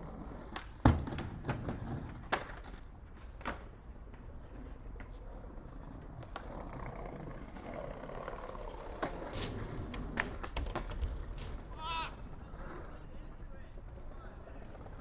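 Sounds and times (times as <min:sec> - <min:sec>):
skateboard clacks: 0:00.0 - 0:15.0
skateboard wheels rumbling: 0:00.0 - 0:15.0.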